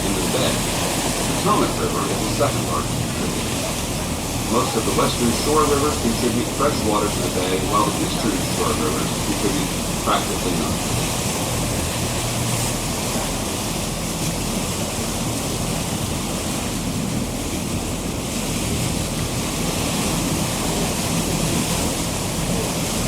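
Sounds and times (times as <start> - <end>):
boat engine hum: 0.0 - 23.0
water rushing: 0.0 - 23.0.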